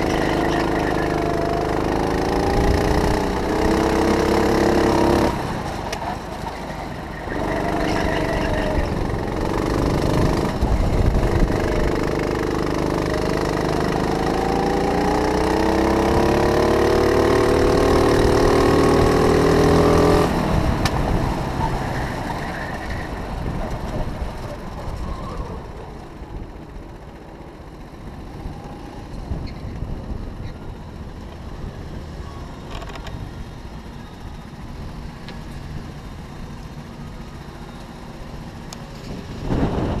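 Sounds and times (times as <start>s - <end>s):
go-kart engine slowing: 0.0s - 40.0s.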